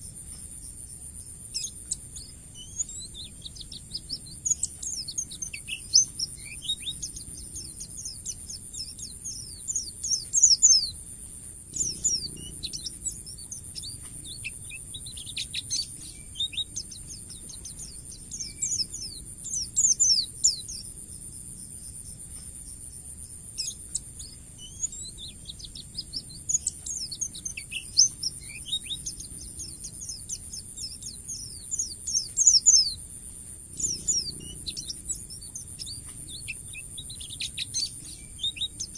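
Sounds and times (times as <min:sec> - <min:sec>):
steady high hiss: 0:00.0 - 0:38.9
bird twittering: 0:01.5 - 0:21.3, 0:23.5 - 0:38.9.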